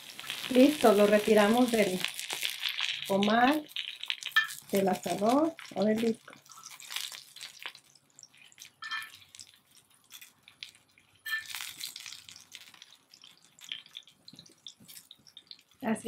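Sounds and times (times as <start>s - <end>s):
crackling sizzle: 0.0s - 16.0s.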